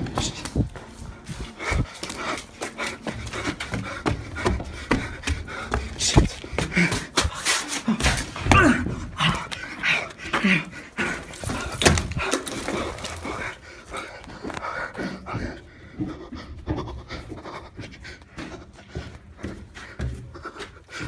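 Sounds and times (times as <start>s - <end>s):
person panting heavily: 0.1s - 21.0s.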